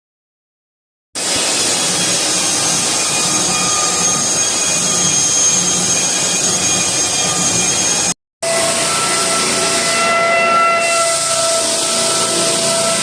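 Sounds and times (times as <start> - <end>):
floor sander with high whine: 1.2 - 13.0.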